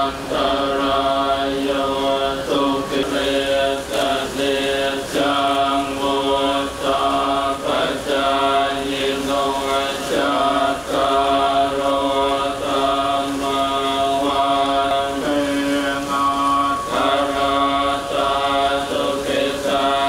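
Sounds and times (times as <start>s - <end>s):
monks chanting in unison: 0.0s - 20.0s.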